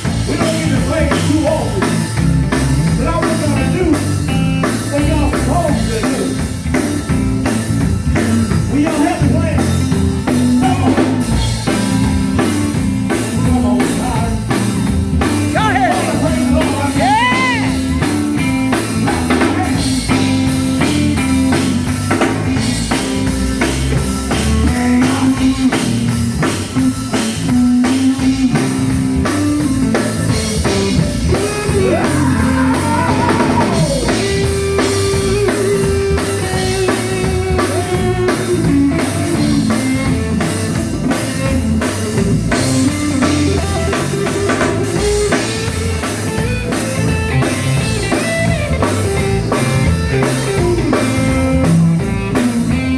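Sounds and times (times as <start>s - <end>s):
bass line: 0.0s - 52.9s
bending guitar notes: 0.0s - 52.9s
drum kit steady beat: 0.0s - 52.9s
guitar: 0.0s - 52.9s.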